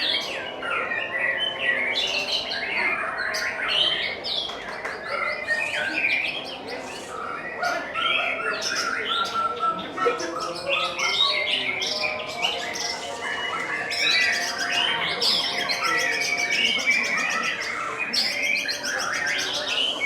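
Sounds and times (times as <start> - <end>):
songbirds chorus: 0.0 - 20.0.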